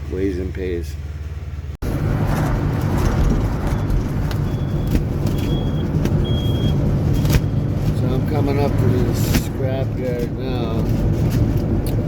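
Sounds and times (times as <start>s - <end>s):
engine and road rumble: 0.0s - 12.0s
rattles and clicks in cab: 2.2s - 12.0s.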